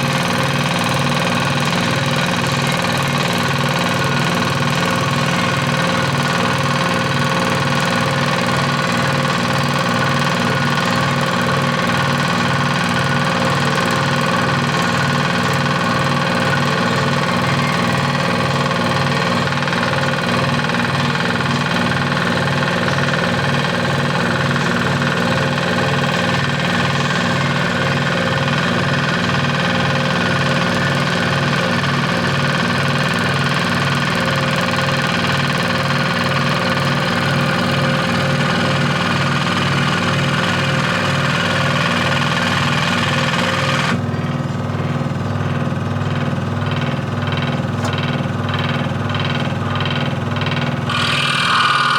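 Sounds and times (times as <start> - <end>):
electric scroll saw running: 0.0 - 44.1, 45.6 - 51.9.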